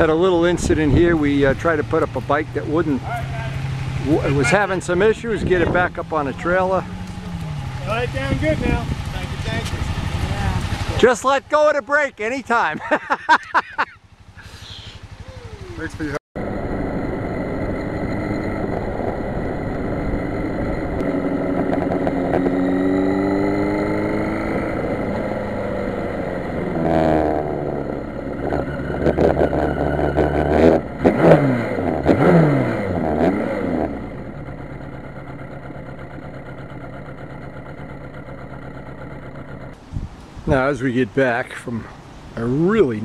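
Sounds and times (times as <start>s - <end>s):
motorcycle engine revving: 0.0s - 11.2s, 13.9s - 39.8s.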